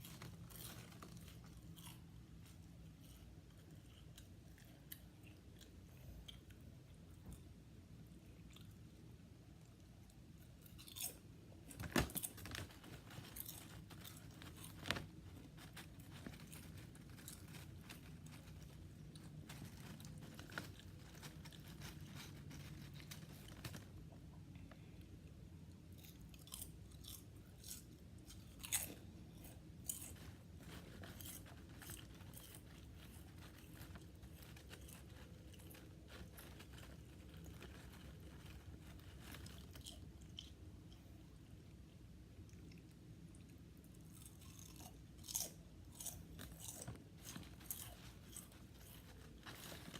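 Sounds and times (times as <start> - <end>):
crunching potato chips: 0.0 - 6.6, 10.4 - 24.2, 25.9 - 40.9, 43.9 - 49.9
faint background hum: 0.0 - 49.9.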